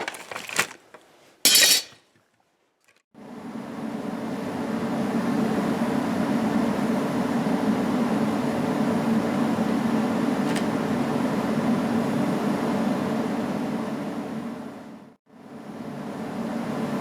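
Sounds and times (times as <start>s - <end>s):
fan motor hum: 3.2s - 17.0s.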